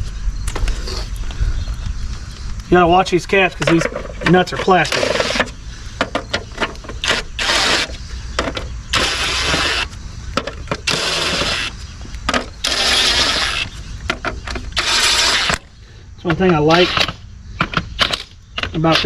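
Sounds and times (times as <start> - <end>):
impact wrench bursts: 3.7 - 19.0.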